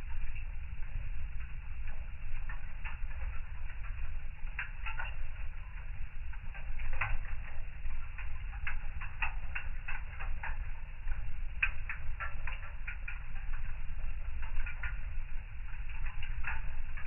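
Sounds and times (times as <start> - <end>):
low rumble of fire: 0.0 - 17.0
wood fire crackling and popping: 0.0 - 17.0.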